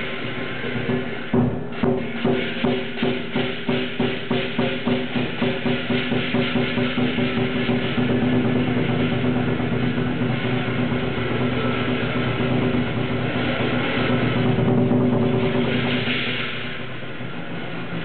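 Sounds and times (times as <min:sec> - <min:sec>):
big drum fast roll: 0:00.0 - 0:18.0
cymbals: 0:00.0 - 0:18.0.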